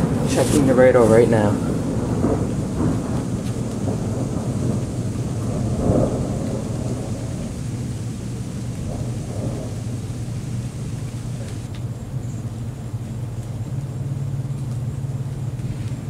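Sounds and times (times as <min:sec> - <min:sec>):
low rumble of thunder: 0:00.0 - 0:16.0.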